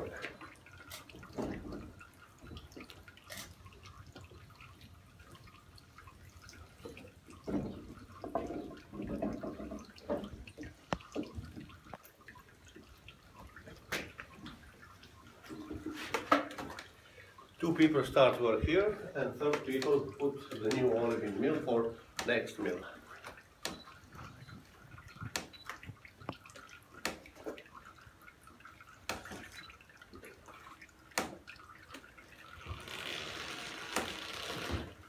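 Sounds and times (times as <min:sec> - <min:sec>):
liquid trickling into stone basin: 0:00.0 - 0:35.0.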